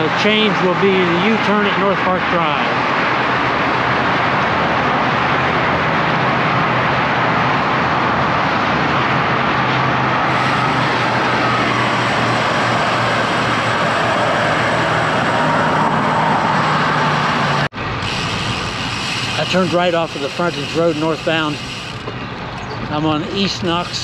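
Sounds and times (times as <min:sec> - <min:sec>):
freeway traffic noise: 0:00.0 - 0:24.0.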